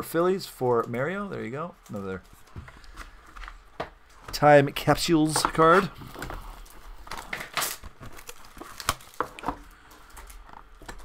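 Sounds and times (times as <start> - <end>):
cardboard crinkling and scraping: 2.0 - 11.0.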